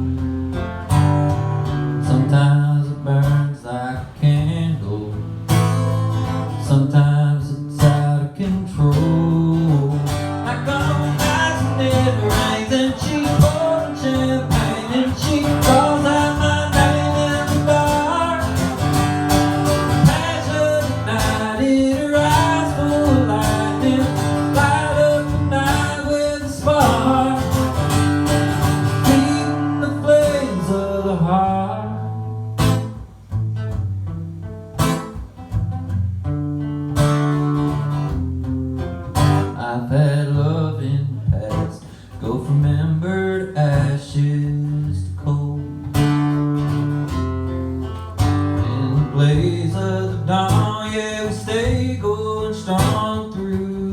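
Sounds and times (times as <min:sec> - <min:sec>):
country song on acoustic guitar: 0:00.0 - 0:53.9.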